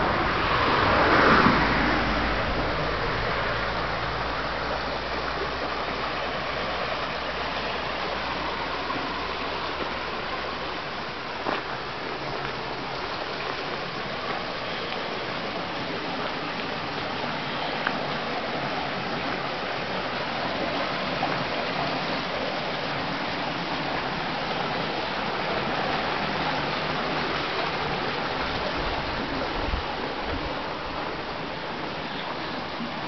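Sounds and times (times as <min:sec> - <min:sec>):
water rushing at waterwheel: 0:00.0 - 0:33.0.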